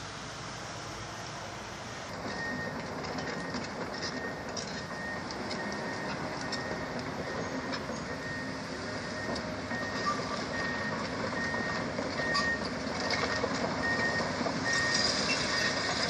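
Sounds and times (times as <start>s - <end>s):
diesel engine running: 0.0s - 16.0s
excavator travel alarm beeping: 2.1s - 15.8s.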